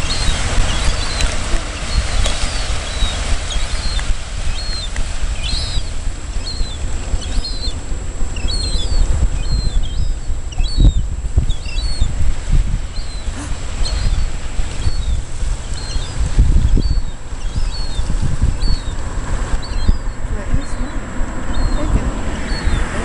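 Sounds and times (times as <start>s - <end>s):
high bird chirps: 0.0s - 12.1s, 12.9s - 19.0s, 19.6s - 23.0s
wind rumble on microphone: 0.0s - 23.0s.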